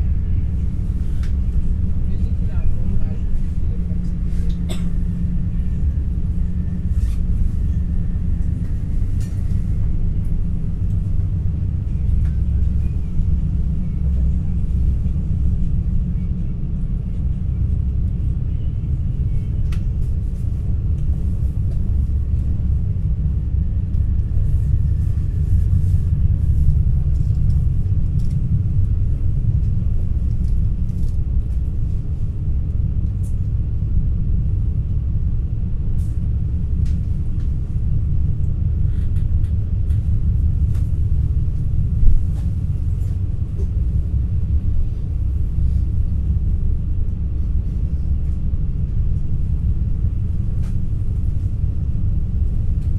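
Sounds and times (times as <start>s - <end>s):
train rumbling inside carriage: 0.0s - 52.9s.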